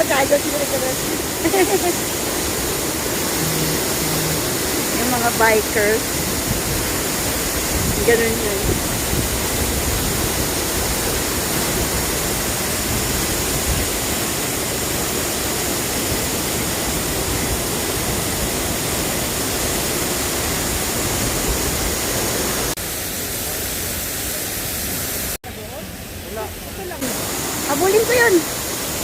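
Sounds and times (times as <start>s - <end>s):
waterfall roaring: 0.0s - 29.0s.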